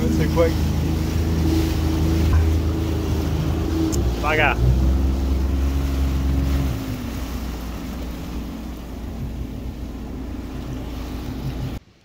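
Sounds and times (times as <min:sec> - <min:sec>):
jet ski engine running: 0:00.0 - 0:11.8
wind and water rush on microphone: 0:00.0 - 0:12.0.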